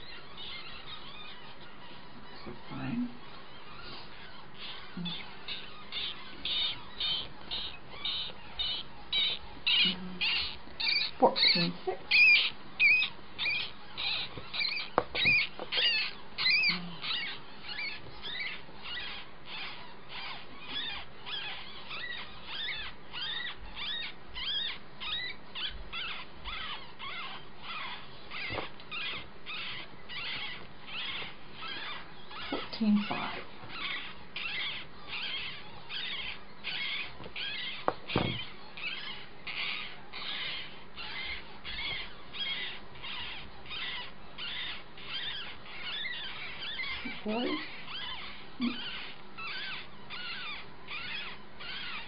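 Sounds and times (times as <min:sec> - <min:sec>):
baby rabbits squeaking: 0:00.0 - 0:52.0.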